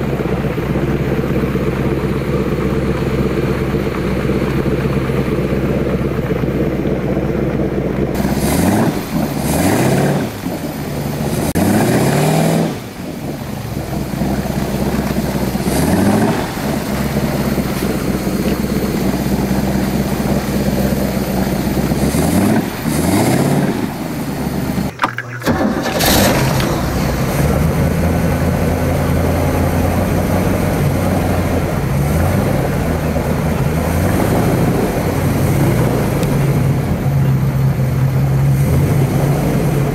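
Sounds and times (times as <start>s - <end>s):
boat engine revving: 0.0s - 39.9s.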